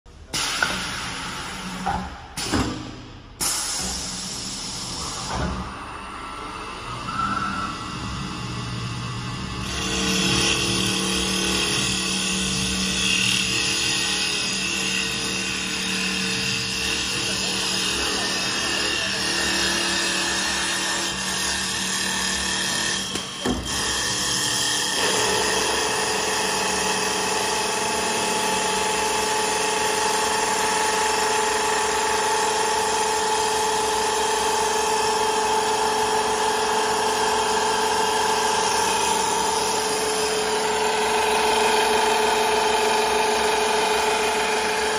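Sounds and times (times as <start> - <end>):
steady machine whine: 3.4 - 44.9.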